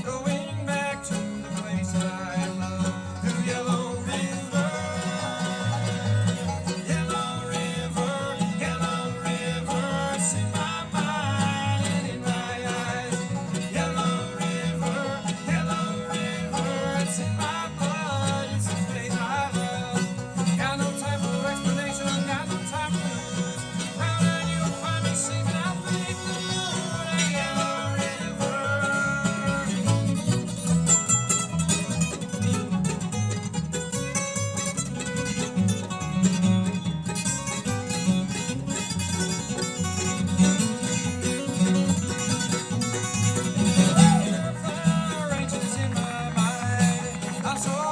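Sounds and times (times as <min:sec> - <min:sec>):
banjo and guitar picking: 0:00.0 - 0:47.9
bass beat: 0:02.7 - 0:37.8, 0:38.5 - 0:47.9.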